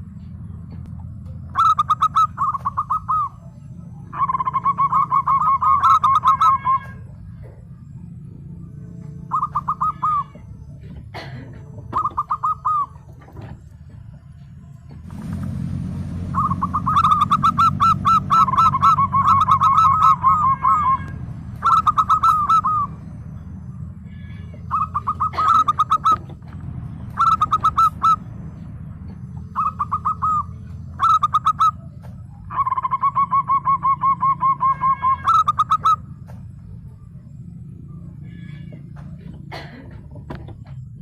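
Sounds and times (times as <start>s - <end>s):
steady low hum: 0.0s - 41.0s
dove cooing: 0.6s - 14.3s, 16.3s - 36.3s.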